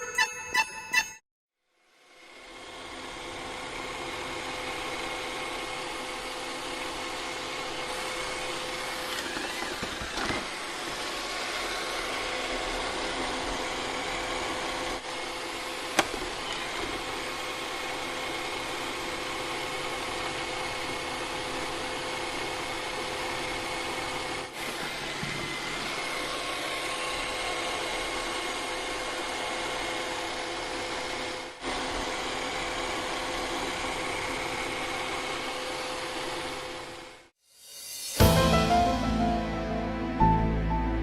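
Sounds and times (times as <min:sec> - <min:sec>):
motor running with steady tones: 0:01.8 - 0:37.3.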